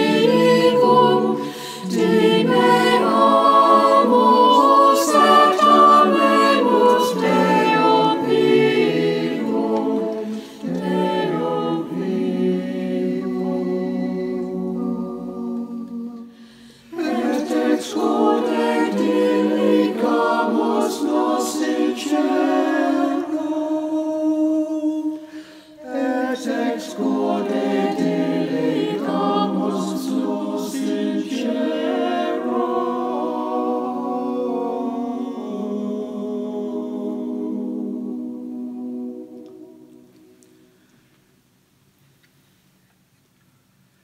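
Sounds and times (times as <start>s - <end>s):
choir singing: 0.0s - 40.8s.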